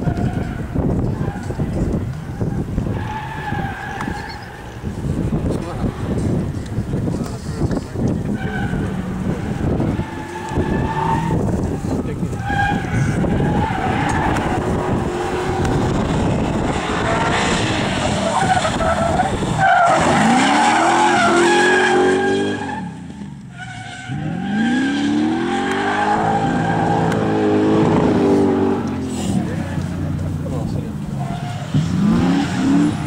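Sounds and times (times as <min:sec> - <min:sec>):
rally car engine revving: 0:00.0 - 0:33.0
tyres skidding: 0:00.0 - 0:33.0.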